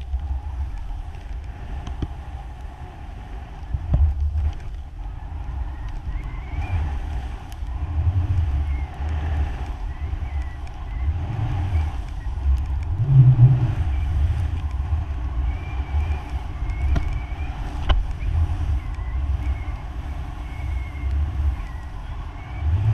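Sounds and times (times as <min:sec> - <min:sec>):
skis rushing through snow: 0:00.0 - 0:22.9
wind buffeting microphone: 0:00.0 - 0:22.9.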